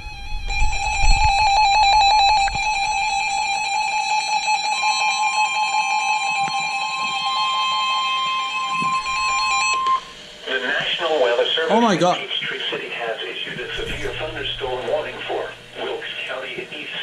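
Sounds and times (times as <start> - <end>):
steady warning alarm tone: 0.0 - 11.0, 13.6 - 16.3.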